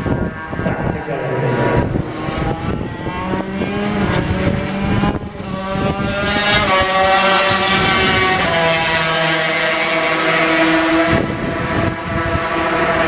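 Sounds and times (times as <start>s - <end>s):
two-stroke motorcycle engine revving: 1.5s - 12.9s.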